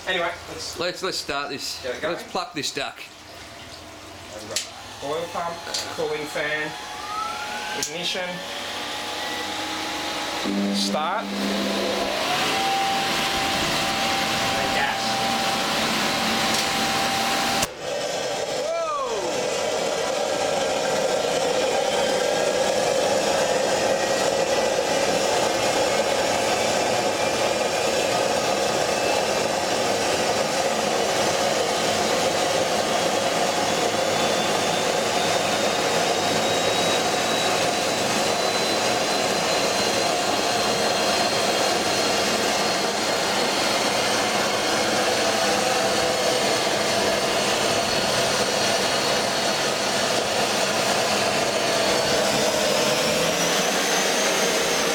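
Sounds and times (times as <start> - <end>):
gas turbine roaring: 3.6 - 54.9
turbine whine rising in pitch: 4.6 - 54.9.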